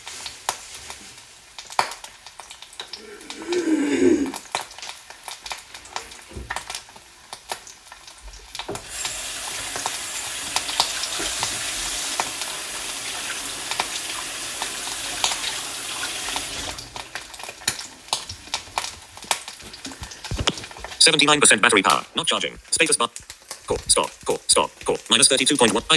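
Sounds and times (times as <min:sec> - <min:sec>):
sausages sizzling in a frying pan: 0:00.0 - 0:25.9.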